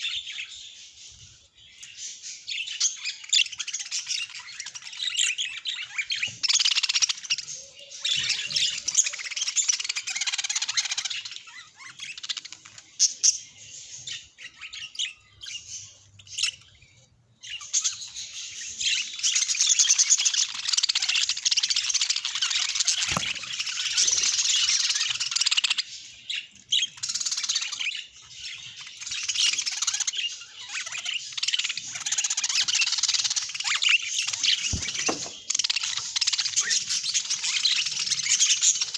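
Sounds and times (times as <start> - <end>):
budgerigars chattering and warbling: 1.8 - 38.9.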